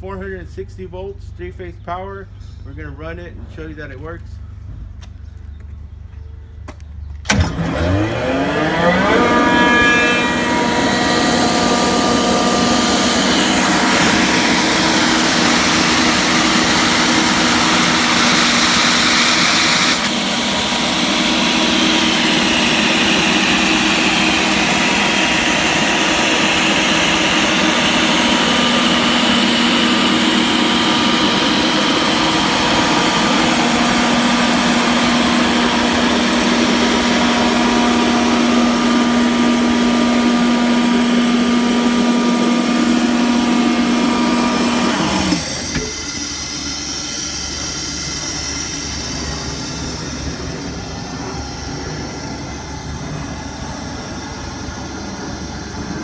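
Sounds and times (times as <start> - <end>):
air compressor motor whining and humming: 7.2 - 56.0.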